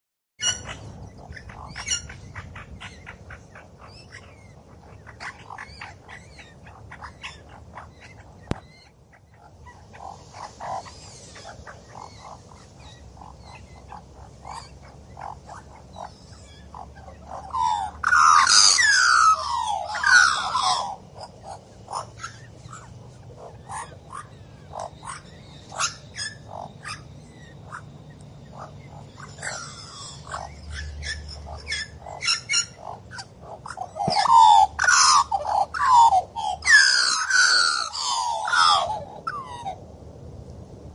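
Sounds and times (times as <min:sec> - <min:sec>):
magpie calling: 0:00.4 - 0:39.8
warbling bird song: 0:00.4 - 0:40.9.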